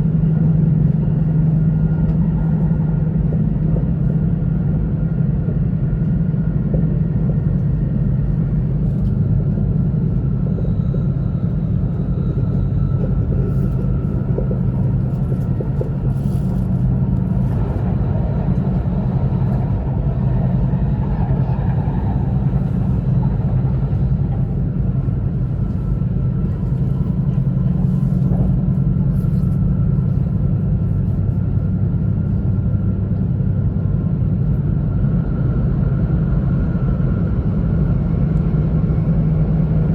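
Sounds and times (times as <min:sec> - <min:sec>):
train running gear rumble: 0:00.0 - 0:39.9.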